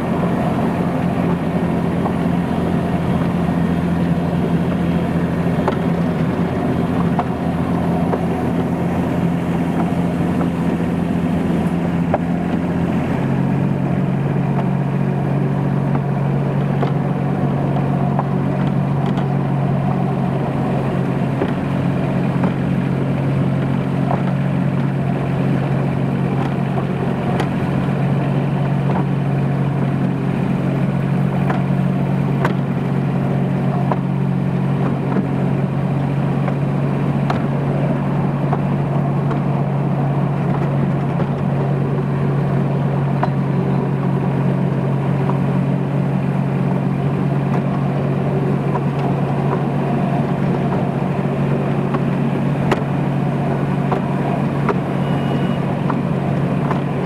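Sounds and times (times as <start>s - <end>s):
locomotive engine droning: 0.0s - 57.0s.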